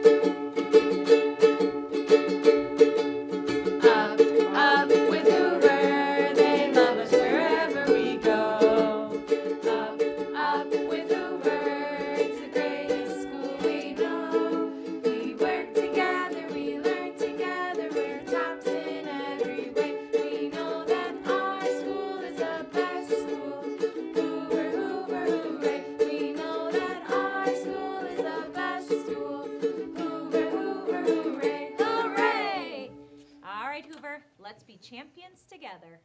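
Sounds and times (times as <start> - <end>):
ukulele strumming: 0.0 - 34.2
children and adults singing: 3.7 - 33.0.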